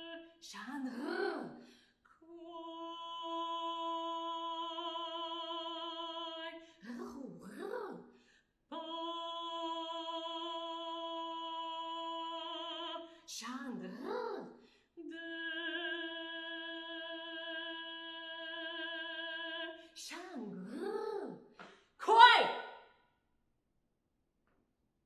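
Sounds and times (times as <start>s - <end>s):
woman singing: 0.0s - 8.1s, 8.7s - 21.4s, 22.0s - 22.5s.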